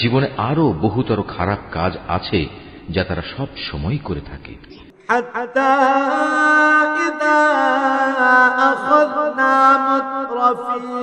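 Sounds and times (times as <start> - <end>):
man chanting: 0.0 - 11.0.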